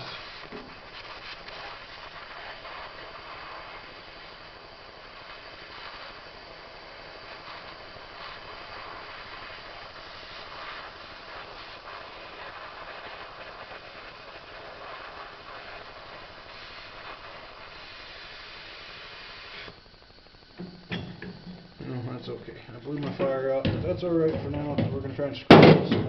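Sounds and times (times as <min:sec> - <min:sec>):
burner flame hissing: 0:00.0 - 0:26.0.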